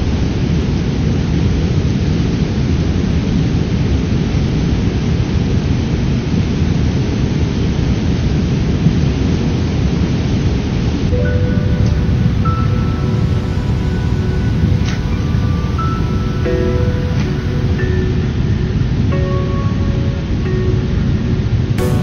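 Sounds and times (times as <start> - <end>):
waterfall and rapids roaring: 0.0 - 22.0.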